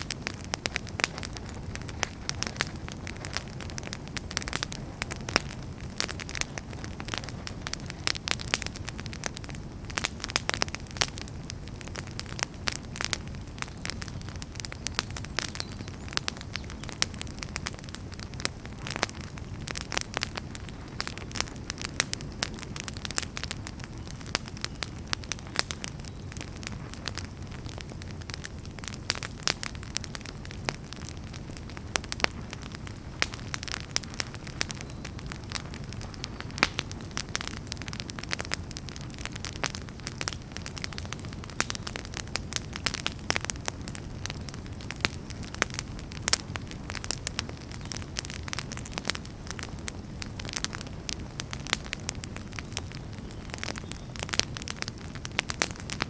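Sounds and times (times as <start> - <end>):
low rumble of flames: 0.0 - 56.0
wood crackling and popping: 0.0 - 56.0.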